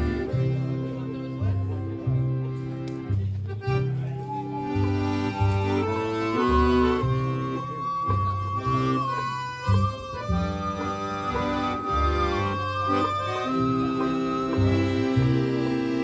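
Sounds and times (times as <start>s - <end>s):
banjo: 0.0s - 4.3s, 4.9s - 16.0s
accordion chords: 0.0s - 16.0s
upright bass: 0.0s - 16.0s.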